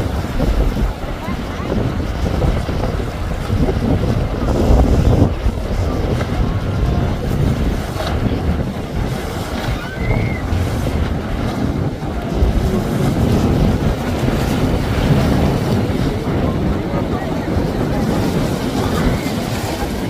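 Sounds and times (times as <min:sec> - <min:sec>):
hull throwing spray: 0:00.0 - 0:20.0
outboard motors running: 0:00.0 - 0:20.0
surf: 0:00.0 - 0:20.0
wind buffeting microphone: 0:00.0 - 0:20.0.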